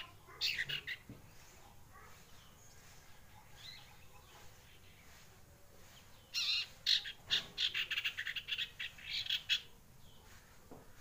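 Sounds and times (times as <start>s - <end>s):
young bird chirping: 0.0s - 10.4s.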